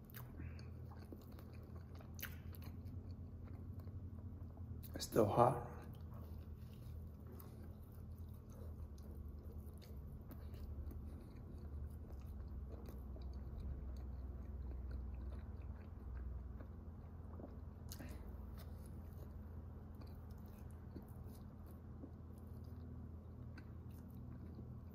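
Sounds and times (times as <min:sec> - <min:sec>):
person chewing food: 0:00.0 - 0:24.9
steady low hum: 0:00.0 - 0:24.9.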